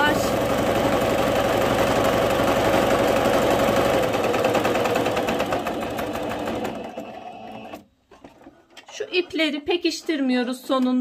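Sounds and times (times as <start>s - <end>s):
sewing machine stitching: 0.0s - 9.1s.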